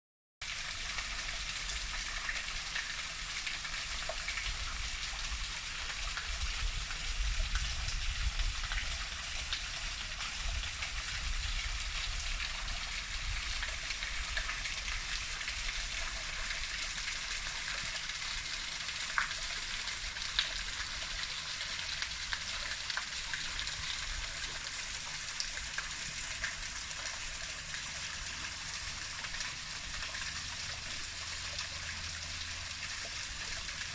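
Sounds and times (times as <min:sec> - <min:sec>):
waterfall pouring and splashing: 0:00.4 - 0:33.9.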